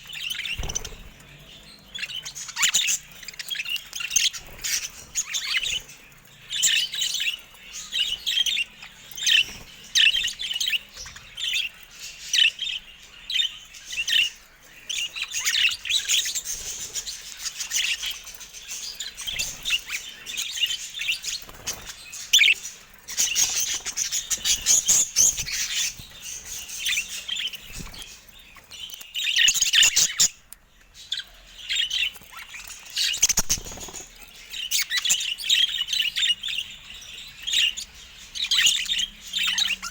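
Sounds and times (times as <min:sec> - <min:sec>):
budgerigars chattering: 0:00.0 - 0:30.4, 0:31.0 - 0:39.9.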